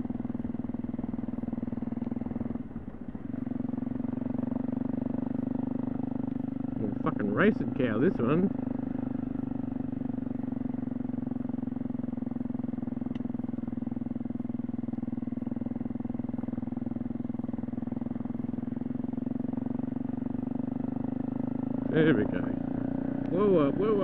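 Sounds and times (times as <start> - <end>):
motorcycle engine droning: 0.0 - 24.0.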